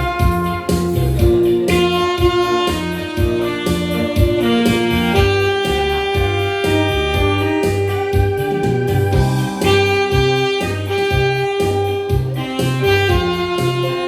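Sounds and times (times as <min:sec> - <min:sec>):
bass: 0:00.0 - 0:14.0
saxophone melody: 0:00.0 - 0:14.0
steady drum beat: 0:00.0 - 0:14.0.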